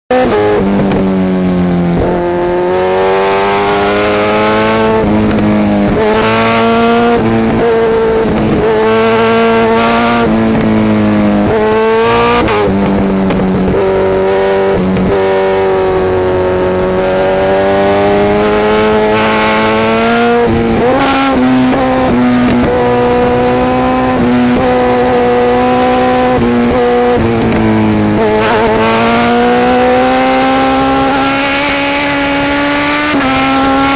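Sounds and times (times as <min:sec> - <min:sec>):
motorcycle engines revving high: 0:00.1 - 0:33.9.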